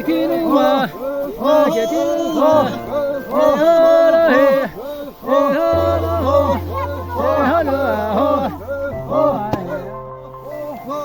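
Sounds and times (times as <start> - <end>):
background music: 0.0 - 11.0
man singing: 0.0 - 11.0.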